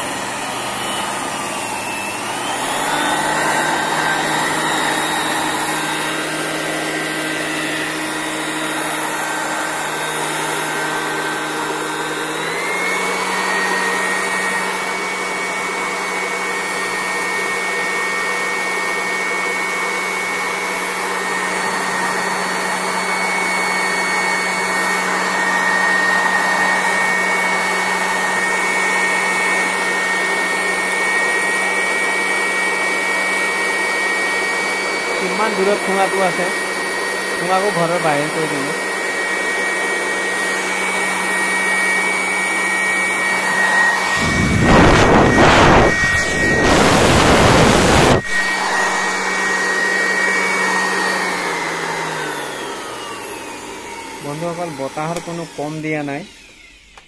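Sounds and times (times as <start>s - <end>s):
electric blower whining: 0.0s - 57.0s.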